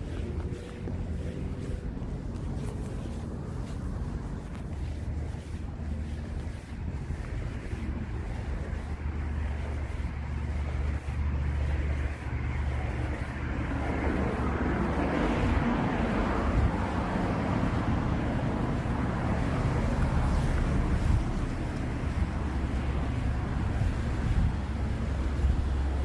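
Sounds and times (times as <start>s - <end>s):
road noise rumble: 0.0s - 26.0s
vehicle passing: 0.0s - 26.0s.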